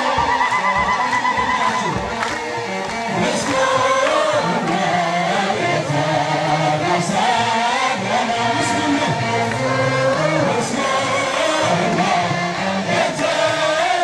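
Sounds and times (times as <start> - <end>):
choir singing a hymn: 0.0 - 14.0
sharp percussive beats: 0.0 - 14.0.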